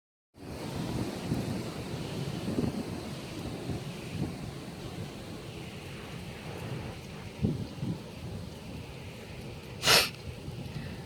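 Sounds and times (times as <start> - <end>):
wind buffeting microphone: 0.4 - 11.0.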